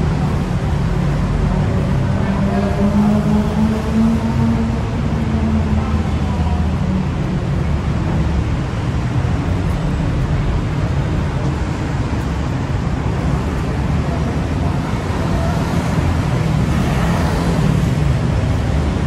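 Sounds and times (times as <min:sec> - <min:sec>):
city road traffic rumble: 0:00.0 - 0:19.0.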